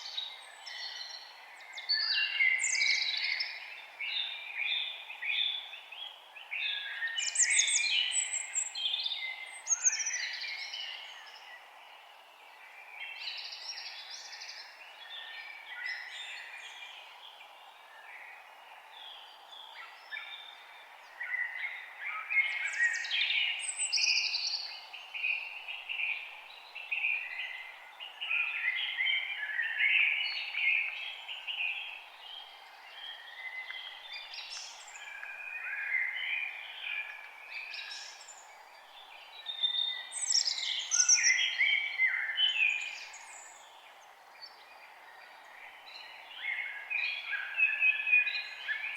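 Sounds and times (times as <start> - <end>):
faint steady hiss: 0.0 - 48.9
forest birds singing: 0.0 - 48.9.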